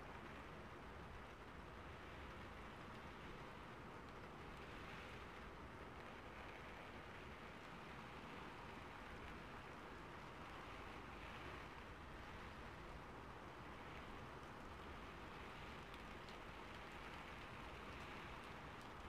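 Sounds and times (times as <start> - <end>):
faint rainfall: 0.0 - 19.0.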